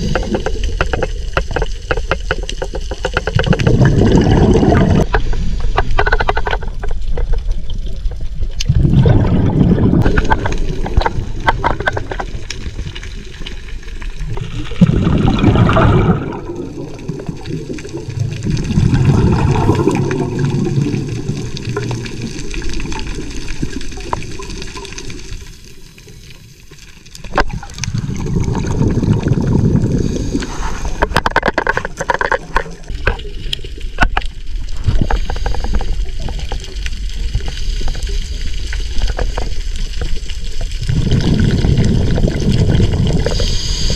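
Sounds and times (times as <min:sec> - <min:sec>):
bubbles gurgling from regulator: 0:00.0 - 0:25.5, 0:27.2 - 0:43.9
underwater crackle: 0:00.0 - 0:43.9.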